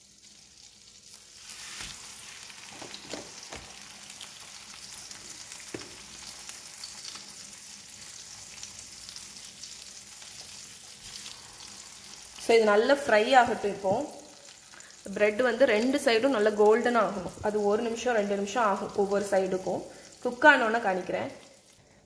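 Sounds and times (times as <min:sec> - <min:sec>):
bread sizzling in frying pan: 0:00.0 - 0:22.0.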